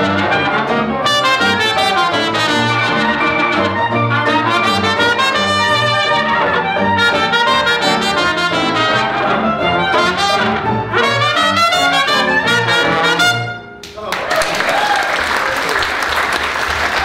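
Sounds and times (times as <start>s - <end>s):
dixieland jazz band playing: 0.0s - 13.8s.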